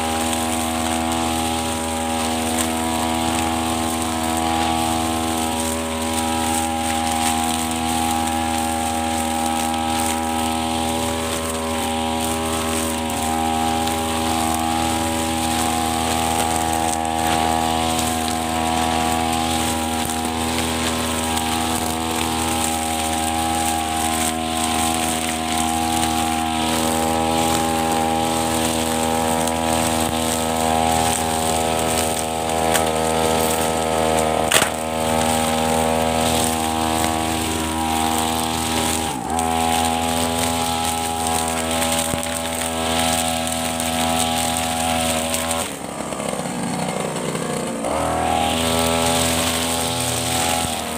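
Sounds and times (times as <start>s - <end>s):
brush cutter engine running: 0.0s - 50.9s
line head cutting grass: 0.0s - 50.9s.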